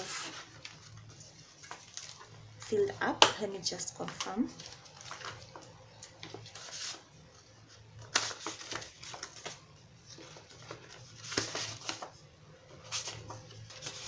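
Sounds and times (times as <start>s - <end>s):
paper envelopes rustling: 0.0s - 2.9s, 3.7s - 14.0s.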